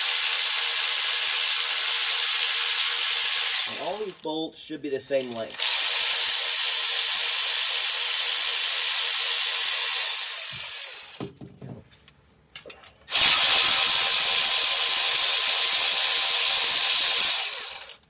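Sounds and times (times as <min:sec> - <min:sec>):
power ratchet whirring: 0:00.0 - 0:04.3, 0:05.2 - 0:11.3, 0:13.1 - 0:18.0.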